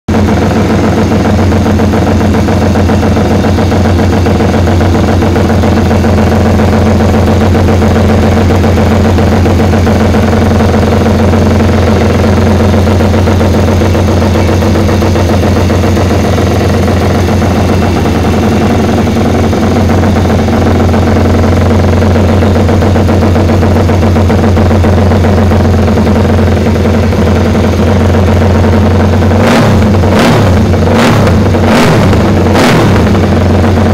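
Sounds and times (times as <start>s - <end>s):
motorcycle engine idling loudly: 0.0s - 33.9s.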